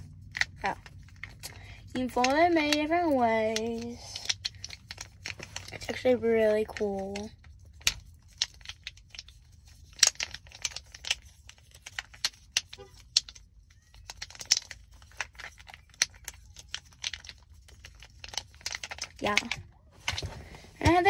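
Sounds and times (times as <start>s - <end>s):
plastic puzzle cube clicking: 0.3s - 6.0s, 6.7s - 19.6s.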